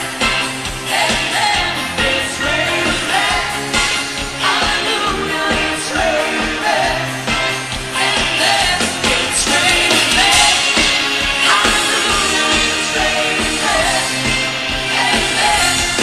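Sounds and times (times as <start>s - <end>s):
pop music with vocal: 0.0s - 16.0s.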